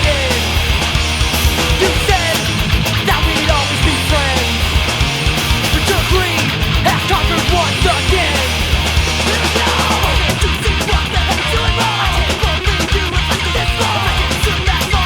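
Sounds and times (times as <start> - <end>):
loud punk rock music: 0.0 - 15.0.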